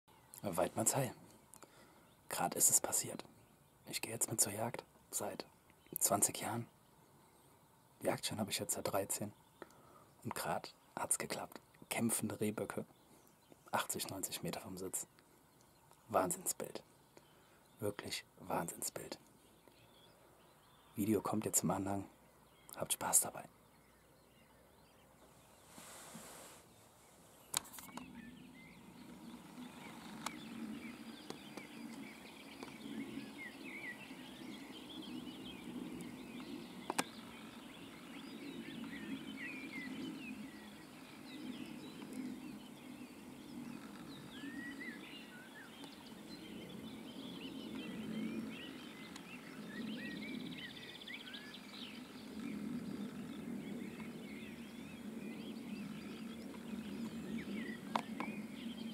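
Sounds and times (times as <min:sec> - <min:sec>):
birds singing and calling: 0:00.1 - 0:58.9.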